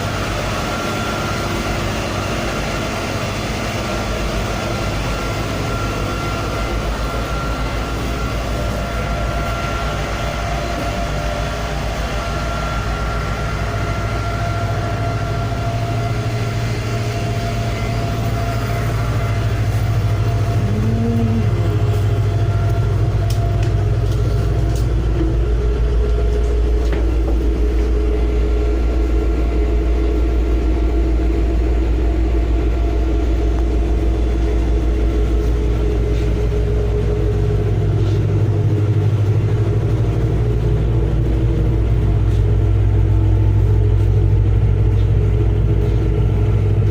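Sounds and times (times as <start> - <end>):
ferry engine rumbling: 0.0 - 46.9.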